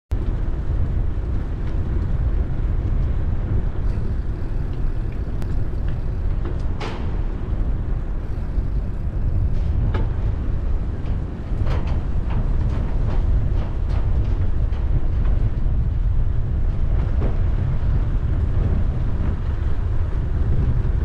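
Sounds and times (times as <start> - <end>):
bicycle tyre rumble: 0.1 - 21.0
wind on microphone: 0.1 - 21.0.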